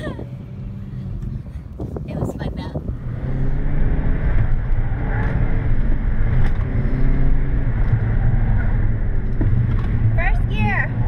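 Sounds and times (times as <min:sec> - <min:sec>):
car engine revving: 0:00.0 - 0:11.0
road and tyre rumble: 0:00.0 - 0:11.0.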